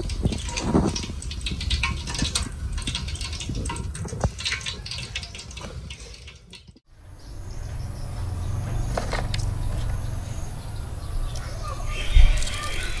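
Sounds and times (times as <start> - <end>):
frying oil crackling and sizzling: 0.0 - 10.3, 11.0 - 13.0.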